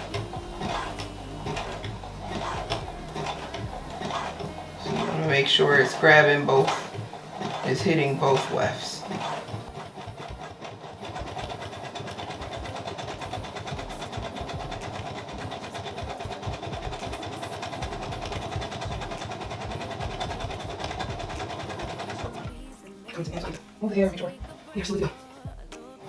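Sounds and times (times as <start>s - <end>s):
sewing machine running: 0.0s - 25.2s.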